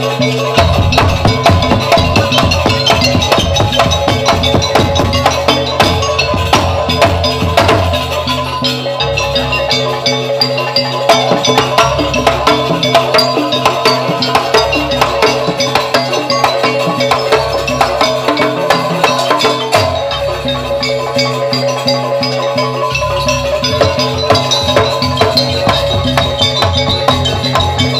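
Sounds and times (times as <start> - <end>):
gamelan ensemble playing: 0.0 - 27.9.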